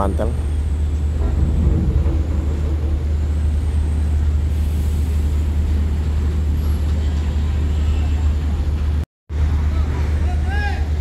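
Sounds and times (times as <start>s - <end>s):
diesel engines running: 0.0s - 11.0s.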